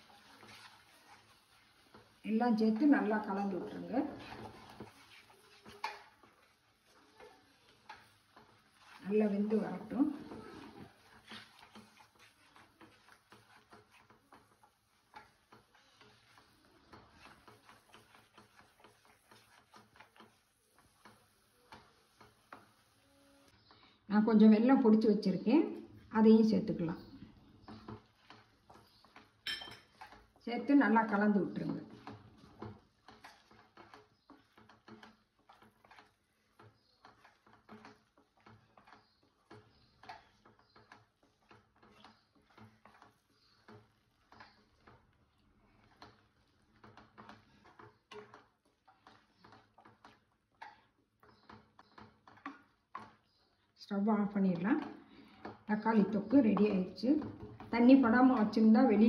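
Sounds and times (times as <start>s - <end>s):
wooden spatula stirring: 0.0s - 59.0s.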